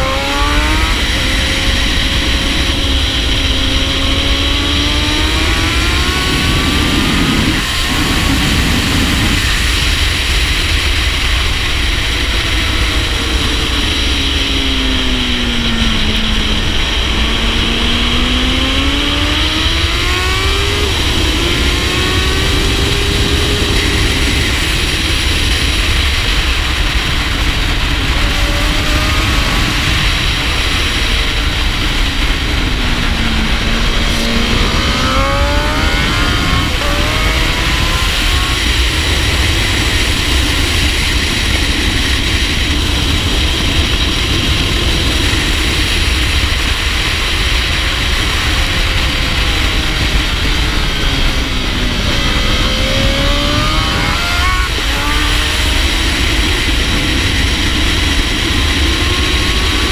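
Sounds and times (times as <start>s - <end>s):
heavy wind noise: 0.0s - 59.9s
motorcycle engine at racing speed: 0.0s - 59.9s.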